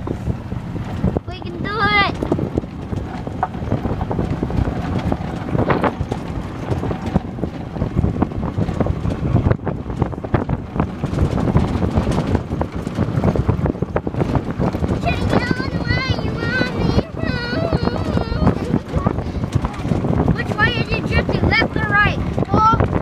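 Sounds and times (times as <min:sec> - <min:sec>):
tyres rumbling on gravel: 0:00.0 - 0:23.0
wind buffeting microphone: 0:00.0 - 0:23.0.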